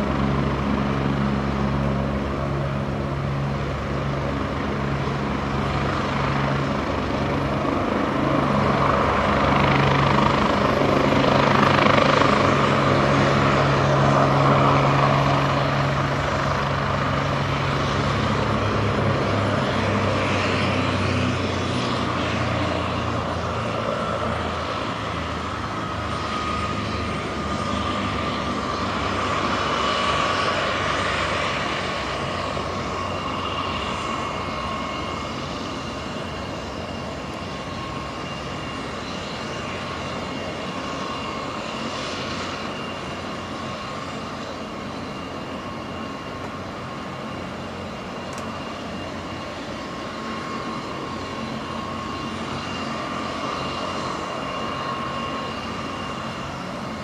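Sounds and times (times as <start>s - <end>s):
helicopter rotor low hum: 0.0s - 57.0s
high turbine whine: 0.0s - 57.0s.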